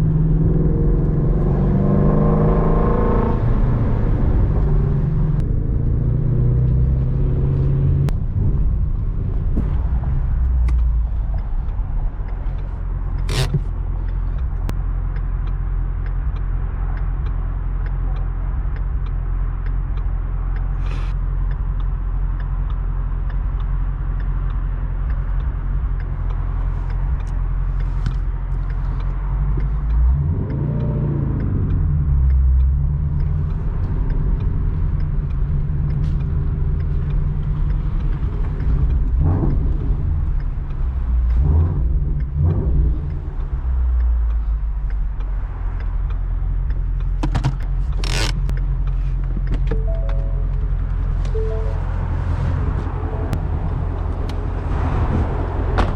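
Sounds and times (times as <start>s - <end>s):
car engine running and revving: 0.0s - 55.9s.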